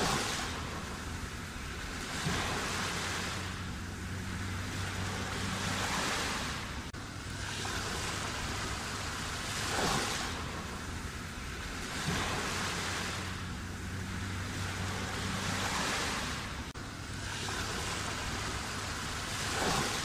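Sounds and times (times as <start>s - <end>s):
sea waves breaking on shore: 0.0s - 20.0s.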